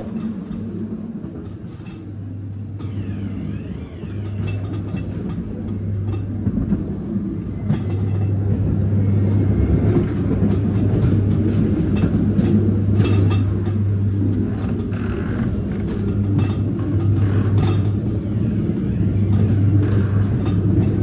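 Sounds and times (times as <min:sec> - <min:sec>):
constant hum: 0:00.0 - 0:21.0
ride car rumbling along track: 0:00.0 - 0:21.0.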